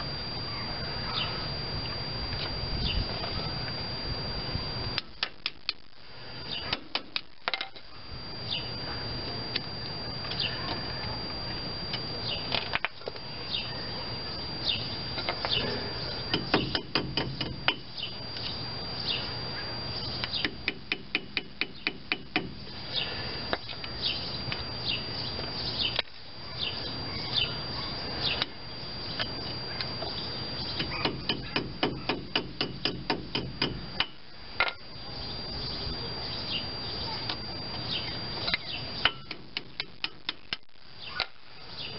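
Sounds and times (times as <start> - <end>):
birds chirping: 0.0 - 5.2, 6.1 - 40.0, 40.8 - 41.9.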